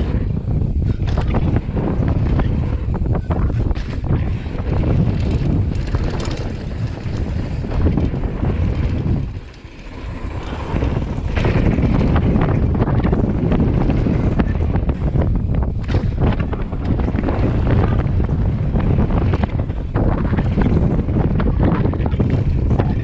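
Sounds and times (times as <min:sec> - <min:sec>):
mountain bike rattling on dirt trail: 0:00.0 - 0:23.0
wind buffeting camera: 0:00.0 - 0:23.0.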